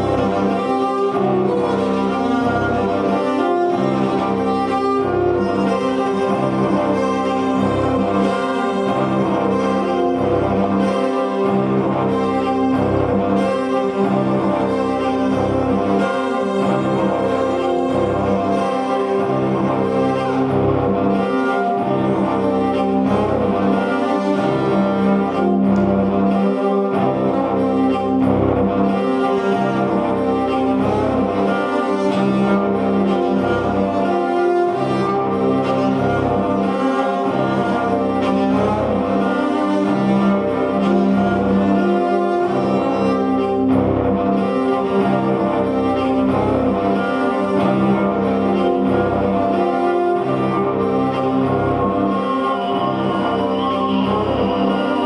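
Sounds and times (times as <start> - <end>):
bowed electric cello: 0.0 - 55.0.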